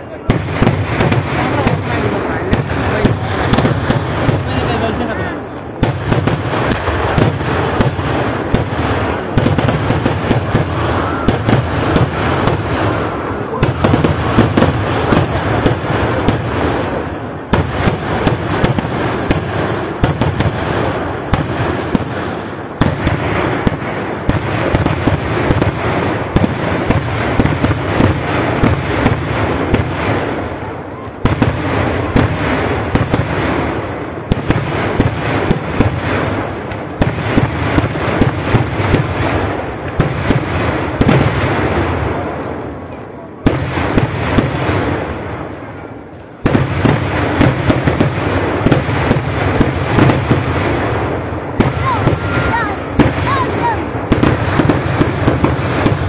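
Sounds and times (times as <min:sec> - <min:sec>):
fireworks cracking and booming: 0:00.0 - 0:56.0.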